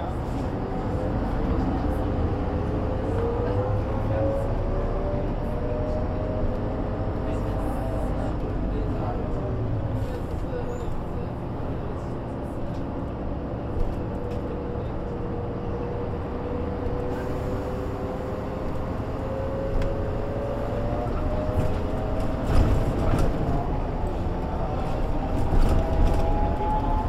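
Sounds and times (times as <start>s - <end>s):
bus engine whine rising: 0.0s - 27.0s.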